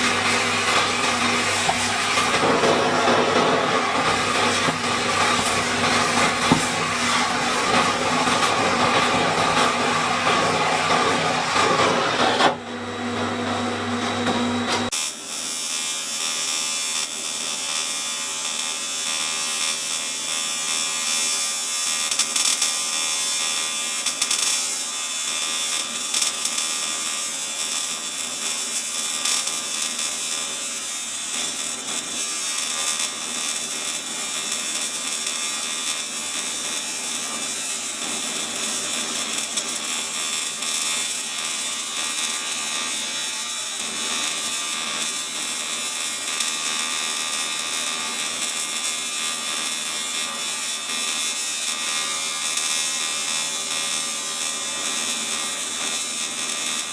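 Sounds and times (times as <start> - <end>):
welding arc buzzing hiss: 0.0 - 12.7, 13.5 - 56.9.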